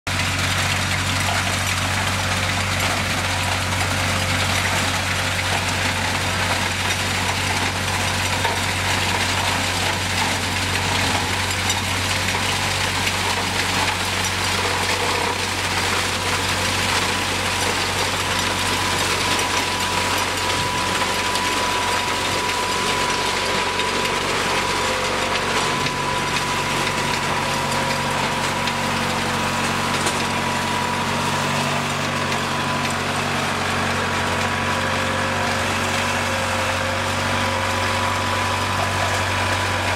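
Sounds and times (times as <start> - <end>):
harvester engine running under load: 0.1 - 39.9
rattle and crackle of stalks cut: 0.1 - 39.9.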